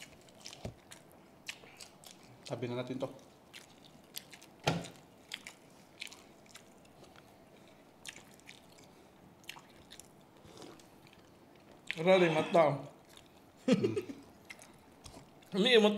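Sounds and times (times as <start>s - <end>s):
chewing with wet lip smacks: 0.0s - 12.0s, 13.0s - 13.5s, 14.2s - 15.6s.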